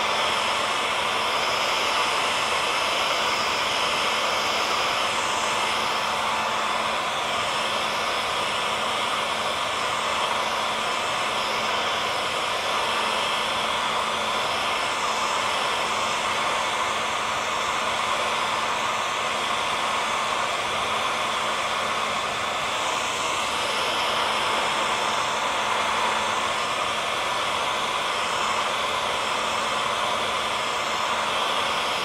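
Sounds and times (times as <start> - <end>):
hair dryer running: 0.0 - 32.0.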